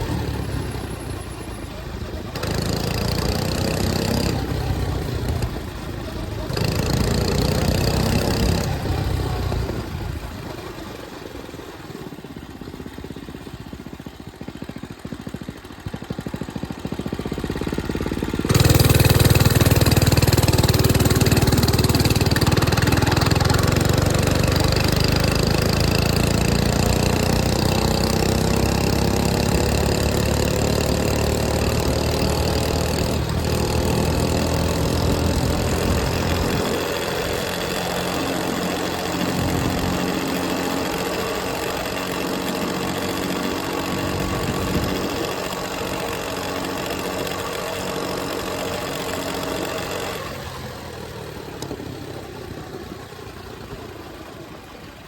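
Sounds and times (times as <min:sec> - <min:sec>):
mini bike engine running: 0:00.0 - 0:55.0.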